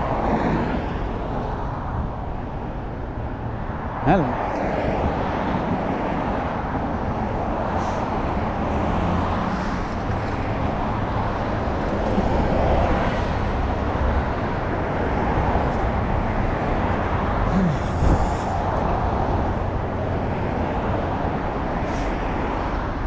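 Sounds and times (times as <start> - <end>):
road traffic passing: 0.0 - 23.0
bus driving by: 4.1 - 23.0.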